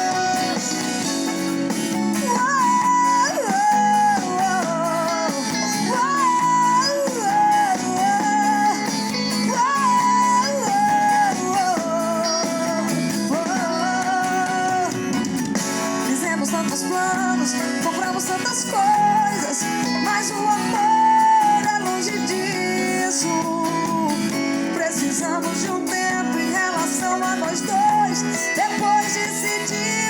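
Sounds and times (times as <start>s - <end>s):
gliding lead melody: 0.0s - 30.0s
guitar and band backing: 0.0s - 30.0s.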